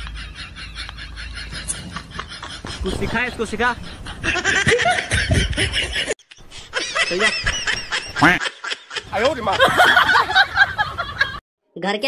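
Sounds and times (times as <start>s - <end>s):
bursts of laughter: 0.0s - 11.4s.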